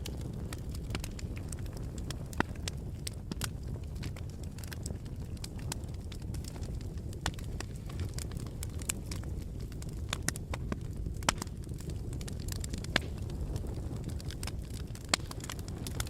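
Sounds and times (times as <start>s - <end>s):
fire crackling: 0.0s - 16.0s
flames rumbling: 0.0s - 16.0s.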